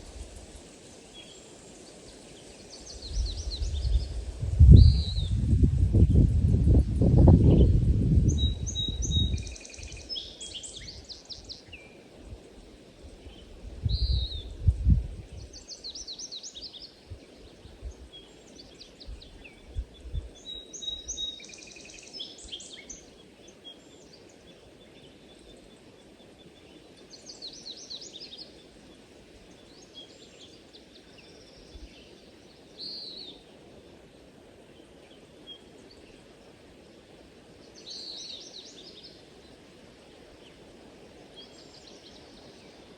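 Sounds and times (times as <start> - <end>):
faint background hiss: 0.0 - 42.9.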